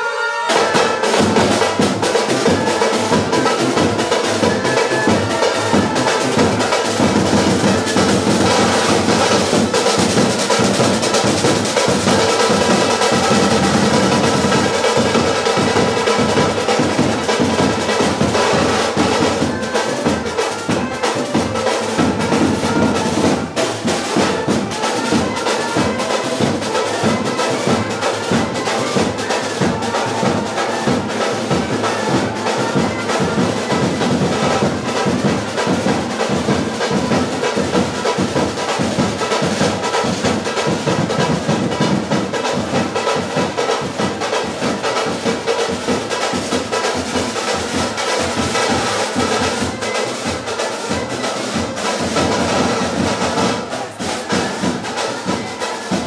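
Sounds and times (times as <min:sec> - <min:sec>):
brass band playing: 0:00.0 - 0:56.0
snare and bass drums: 0:00.5 - 0:56.0.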